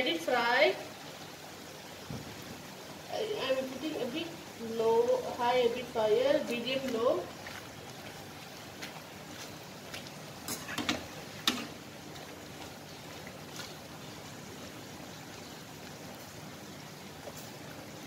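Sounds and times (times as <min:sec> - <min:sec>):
puri sizzling in hot oil: 0:00.0 - 0:18.0.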